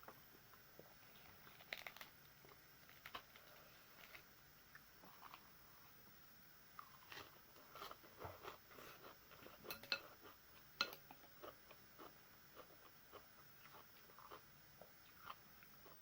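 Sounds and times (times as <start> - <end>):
soft chewing: 0.0 - 6.0, 6.7 - 16.0.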